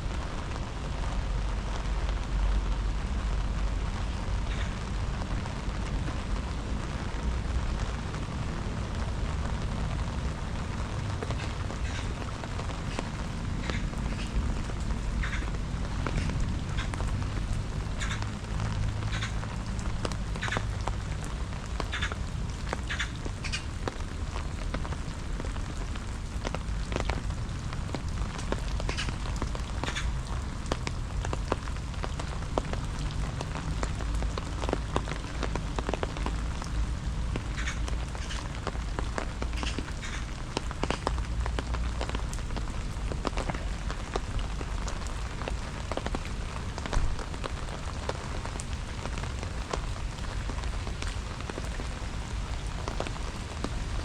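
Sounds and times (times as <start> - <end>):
rain drops tapping: 0.0 - 54.0
rain hiss: 0.0 - 54.0.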